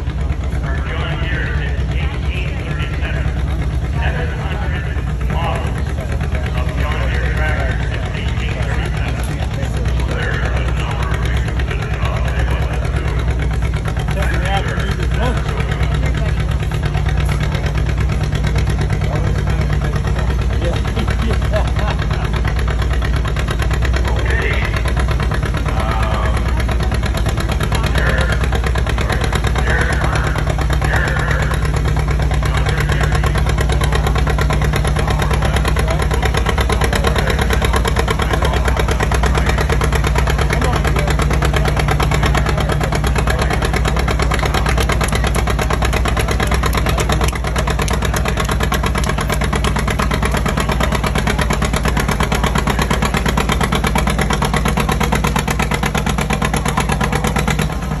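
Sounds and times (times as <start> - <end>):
tractor engine under heavy load: 0.0 - 58.0.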